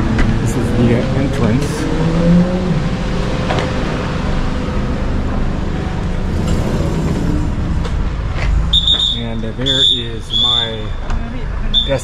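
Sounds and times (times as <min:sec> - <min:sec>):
constant hum: 0:00.0 - 0:12.0
vehicle engine running: 0:00.0 - 0:12.0.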